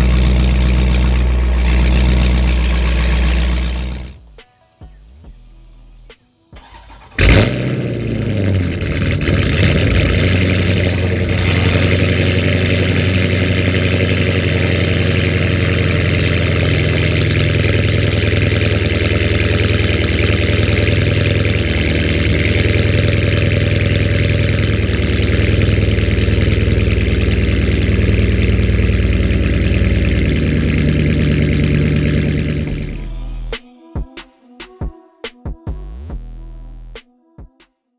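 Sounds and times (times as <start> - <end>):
loud car engine idling: 0.0 - 4.2, 7.0 - 33.2.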